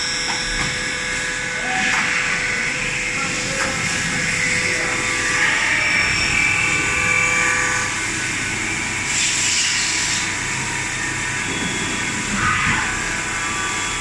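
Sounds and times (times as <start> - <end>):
machine whine with held tones: 0.0 - 14.0.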